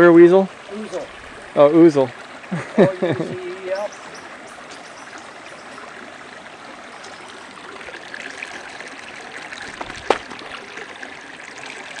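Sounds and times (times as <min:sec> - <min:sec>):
creek water trickling over rocks: 0:00.0 - 0:12.0.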